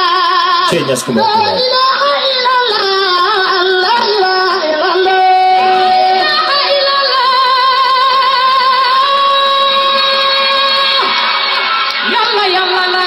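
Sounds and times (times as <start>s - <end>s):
person chanting in high voice: 0.0s - 10.8s.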